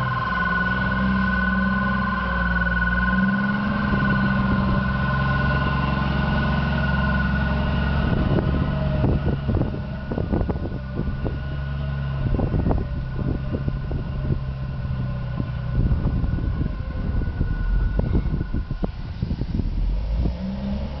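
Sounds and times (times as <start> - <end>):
snow plough engine running: 0.0 - 21.0.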